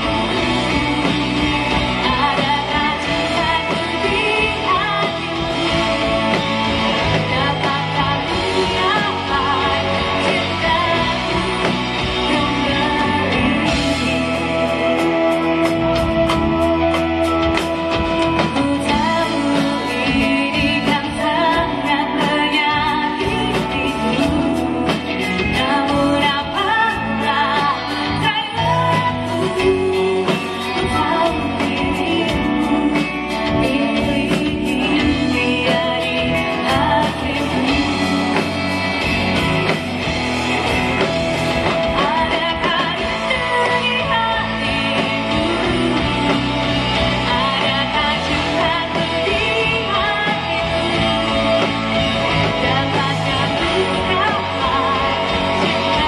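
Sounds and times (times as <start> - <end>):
drums: 0.0 - 56.0
electric guitars: 0.0 - 56.0
keyboards: 0.0 - 56.0
person singing: 0.0 - 56.0.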